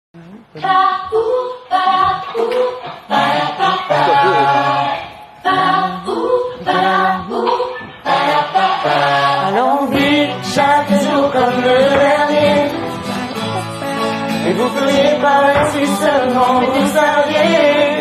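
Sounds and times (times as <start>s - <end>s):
young singers singing a cappella: 0.5s - 13.2s, 14.3s - 18.0s.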